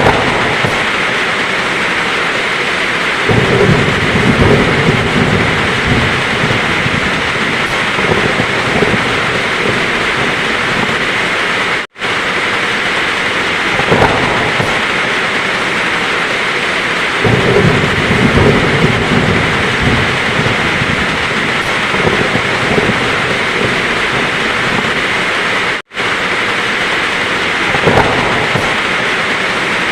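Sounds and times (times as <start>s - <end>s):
heavy rain pouring: 0.0s - 29.9s
thunder rumbling: 0.0s - 29.9s.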